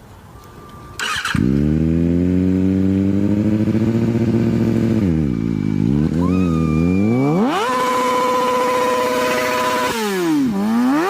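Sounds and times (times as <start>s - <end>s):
motorcycle engine revving: 1.0s - 11.0s.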